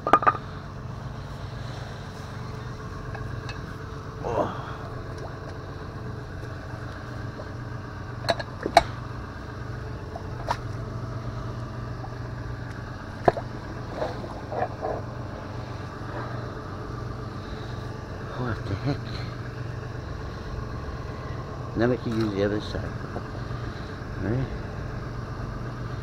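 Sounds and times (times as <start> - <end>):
engine idling hum: 0.0 - 26.0.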